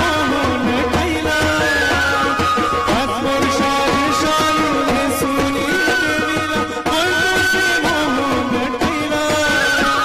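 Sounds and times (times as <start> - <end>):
drum strokes: 0.0 - 10.0.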